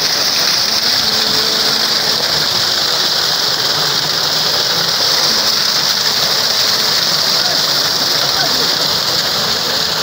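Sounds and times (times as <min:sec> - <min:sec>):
stream water splashing over rocks: 0:00.0 - 0:10.0.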